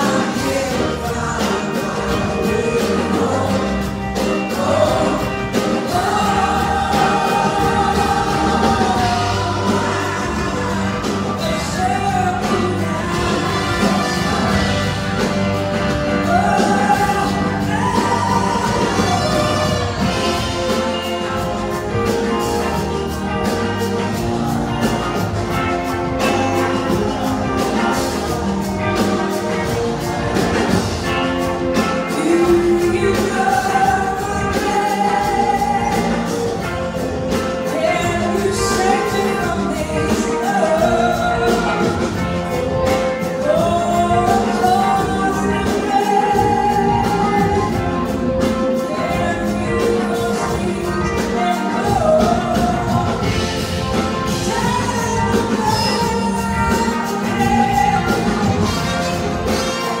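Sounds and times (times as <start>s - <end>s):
gliding lead guitar line: 0.0s - 60.0s
live rock band playing: 0.0s - 60.0s.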